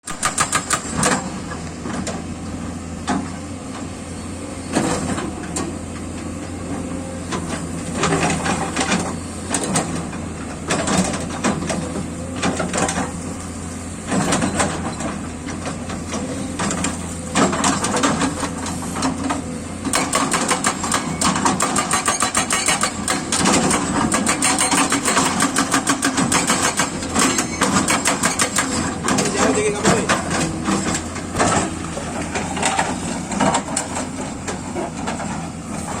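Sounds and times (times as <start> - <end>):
excavator diesel engine running: 0.1 - 36.0.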